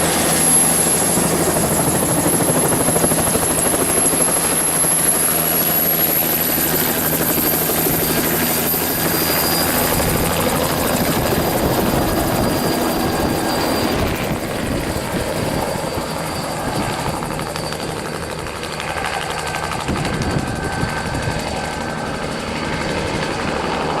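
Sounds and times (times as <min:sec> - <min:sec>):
helicopter flying: 0:00.0 - 0:24.0.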